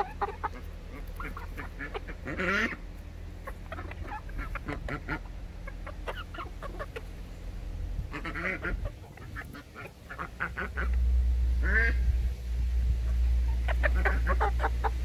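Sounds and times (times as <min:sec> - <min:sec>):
chickens clucking: 0:00.0 - 0:15.0
low rumble: 0:00.0 - 0:15.0.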